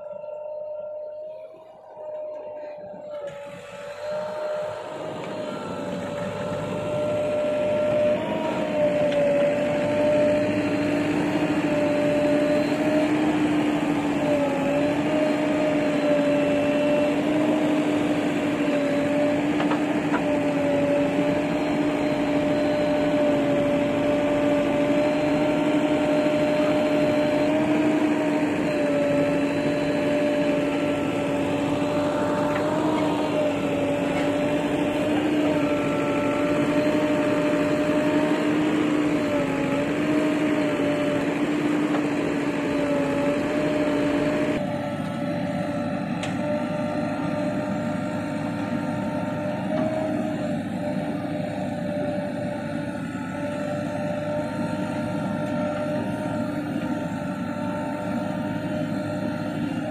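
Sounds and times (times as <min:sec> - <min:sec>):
diesel engine droning: 0:00.0 - 0:59.9.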